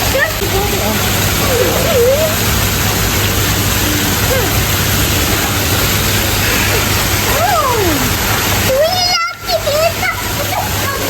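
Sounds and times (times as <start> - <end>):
rush of falling water: 0.0 - 11.0.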